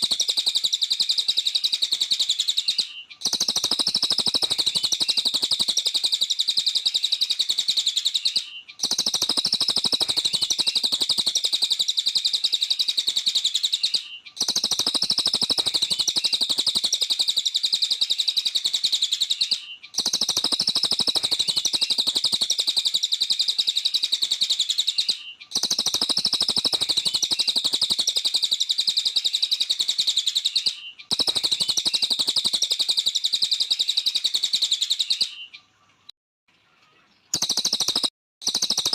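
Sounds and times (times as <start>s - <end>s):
bird singing rapid trill: 0.0s - 38.9s.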